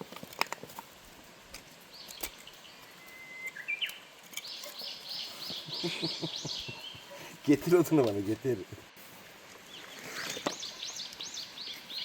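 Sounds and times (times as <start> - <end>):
songbird chirping: 1.7 - 8.9, 9.5 - 12.0.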